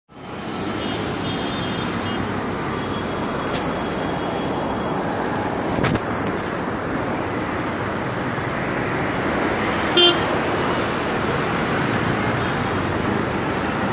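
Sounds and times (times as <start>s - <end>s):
road traffic: 0.1s - 13.9s.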